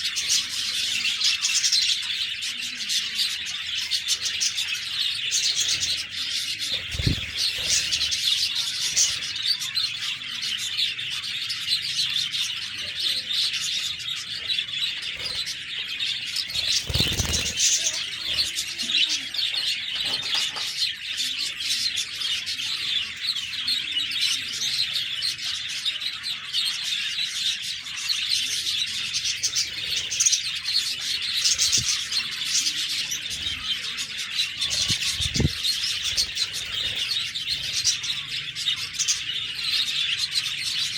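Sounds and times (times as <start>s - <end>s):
budgerigars chattering: 0.0s - 23.1s, 24.9s - 40.9s.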